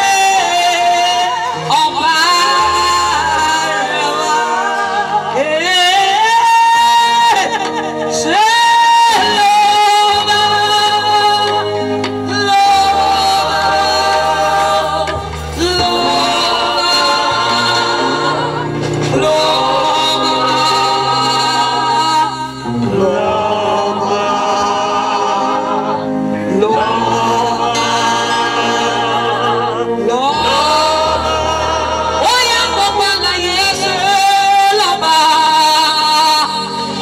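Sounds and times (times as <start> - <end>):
backing singers: 0.0 - 37.0
keyboard with bass line: 0.0 - 37.0
woman singing into microphone: 0.0 - 37.0.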